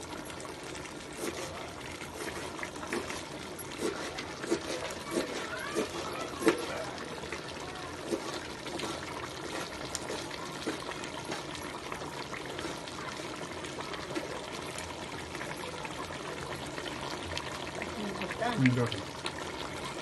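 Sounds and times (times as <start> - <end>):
water pouring: 0.0 - 20.0.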